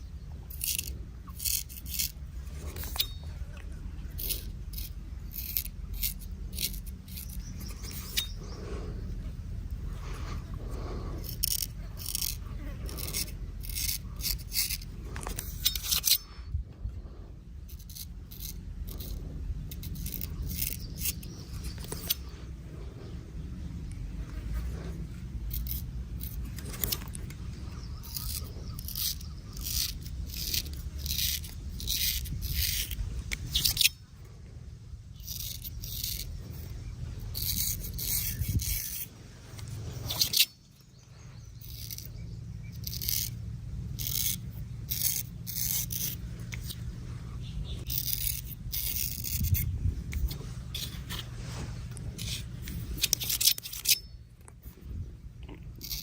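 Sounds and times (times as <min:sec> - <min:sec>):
razor scraping stubble: 0:00.0 - 0:56.0
steady low hum: 0:00.0 - 0:56.0.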